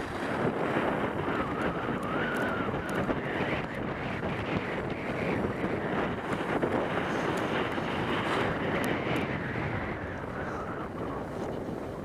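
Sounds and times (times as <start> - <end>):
skis sliding over snow: 0.0 - 12.0
wind rushing over microphone: 0.0 - 12.0.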